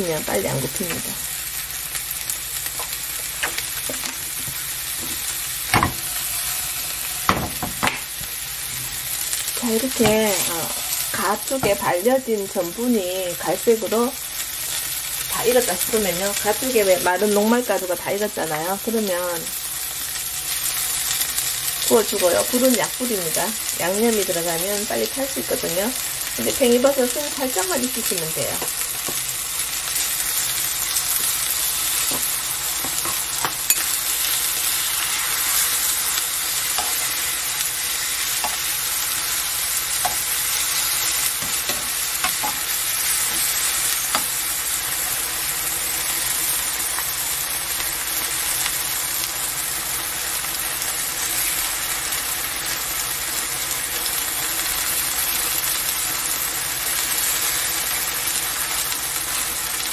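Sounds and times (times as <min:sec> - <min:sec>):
mushrooms sizzling in oil: 0:00.0 - 0:59.9.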